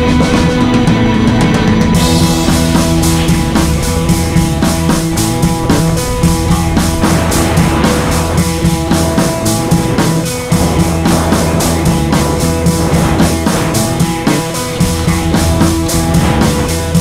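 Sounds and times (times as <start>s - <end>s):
rock music with drums: 0.0s - 17.0s.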